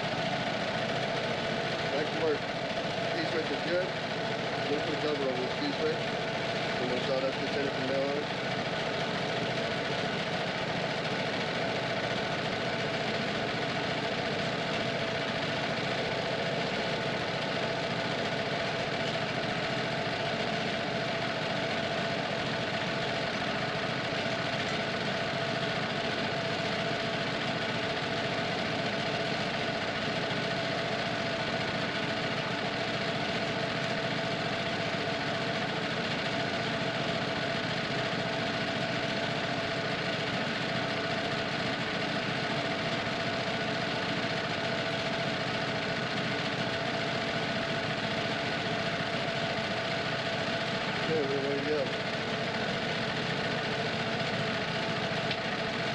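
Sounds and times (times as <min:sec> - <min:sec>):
sawmill engine running: 0:00.0 - 0:55.9.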